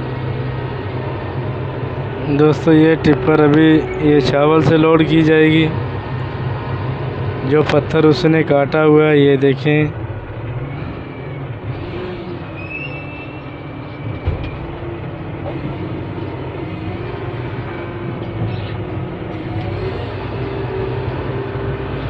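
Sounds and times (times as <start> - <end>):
heavy machinery diesel engines running: 0.0 - 22.0.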